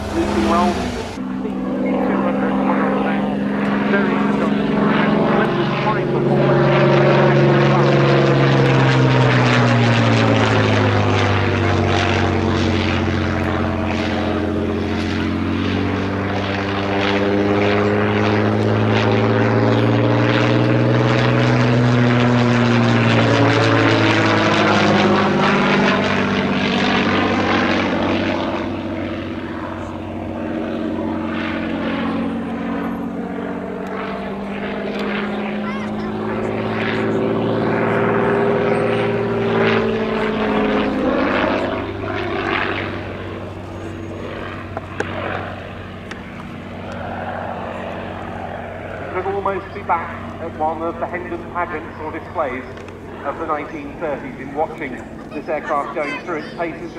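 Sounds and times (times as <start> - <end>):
biplane engine overhead: 0.0 - 56.9.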